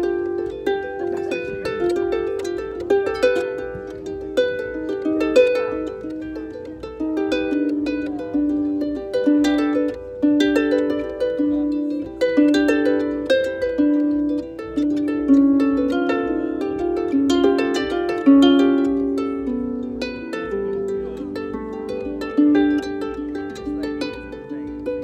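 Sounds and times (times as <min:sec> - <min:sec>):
plucked harp melody: 0:00.0 - 0:25.0.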